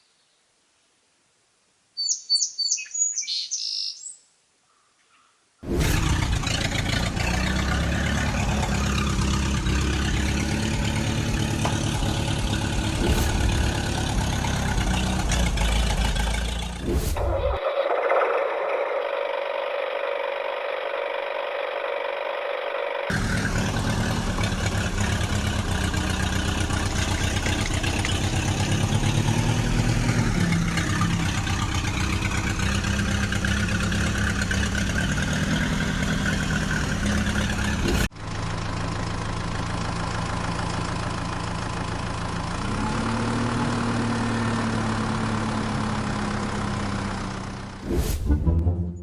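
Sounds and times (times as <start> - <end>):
tractor engine running: 5.6 - 49.0.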